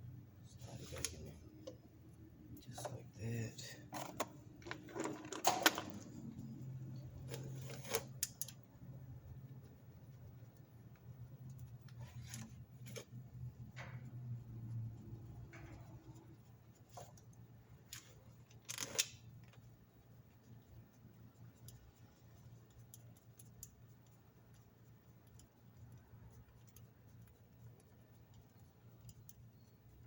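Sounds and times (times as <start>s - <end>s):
faint steady low hum: 0.0s - 30.0s.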